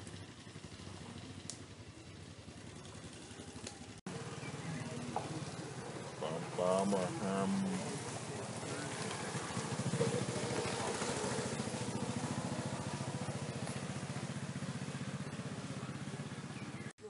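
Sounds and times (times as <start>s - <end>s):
engine running with rapid pulse: 0.0s - 17.0s.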